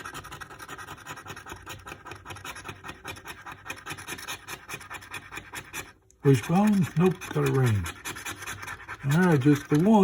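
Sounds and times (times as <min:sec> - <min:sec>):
scratching lottery ticket: 0:00.0 - 0:10.0.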